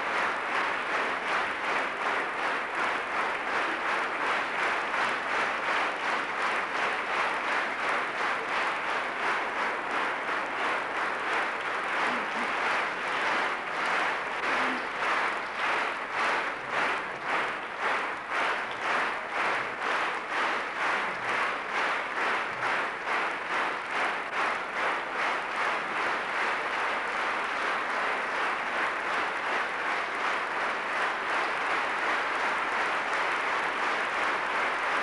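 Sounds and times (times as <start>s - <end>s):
audience clapping in rhythm: 0.0s - 35.0s.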